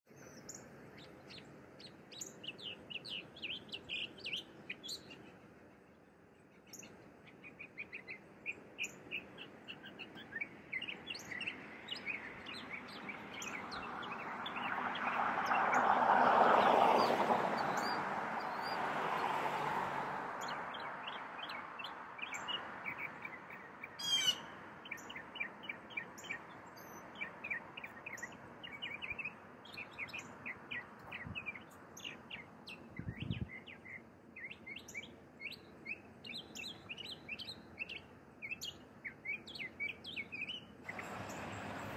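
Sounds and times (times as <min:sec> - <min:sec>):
small birds chirping: 0:00.1 - 0:41.9.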